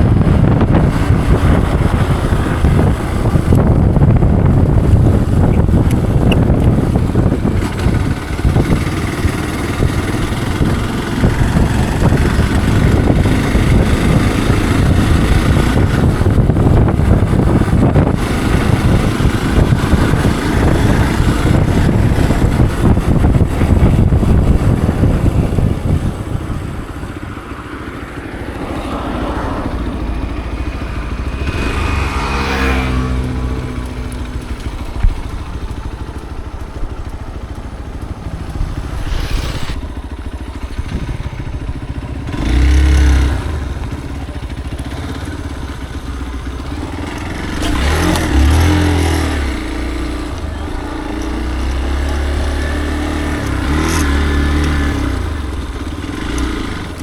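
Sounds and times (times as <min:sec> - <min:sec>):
motorcycle running: 0:00.0 - 0:57.0
wind buffeting microphone: 0:00.0 - 0:57.0.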